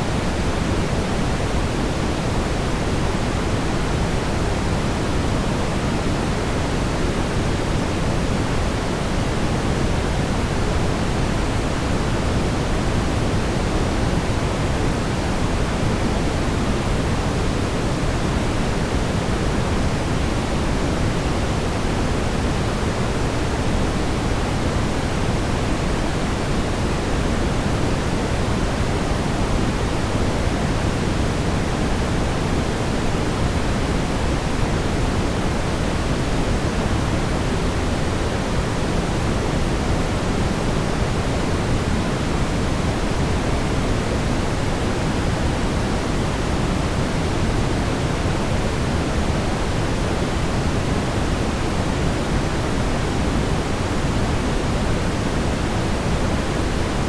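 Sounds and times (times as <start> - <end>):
brown noise rumbling hiss: 0.0 - 57.0.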